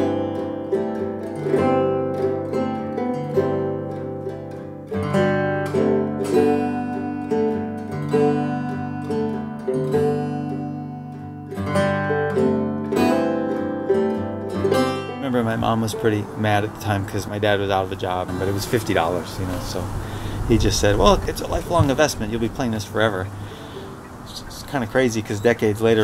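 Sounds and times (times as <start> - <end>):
acoustic guitars playing: 0.0 - 26.0.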